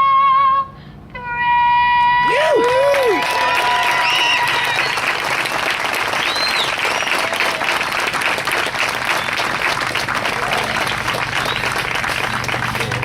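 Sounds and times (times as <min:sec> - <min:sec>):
crowd applauding: 0:02.2 - 0:13.0.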